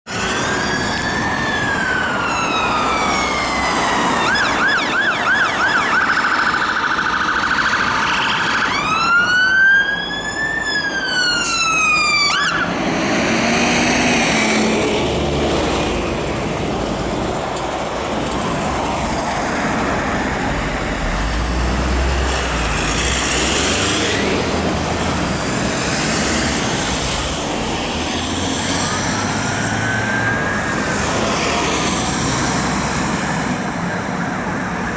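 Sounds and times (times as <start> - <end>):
traffic noise: 0.0 - 34.9
fire engine siren wailing and yelping: 0.1 - 21.4, 22.2 - 34.9
truck engine: 0.1 - 34.9.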